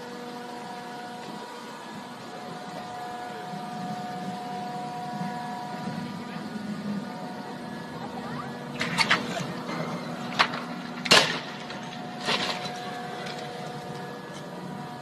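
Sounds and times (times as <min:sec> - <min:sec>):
mechanical hum with held tones: 0:00.0 - 0:15.0.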